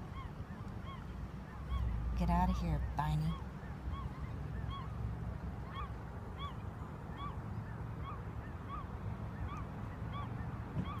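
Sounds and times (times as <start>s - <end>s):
bird calling: 0.0s - 11.0s.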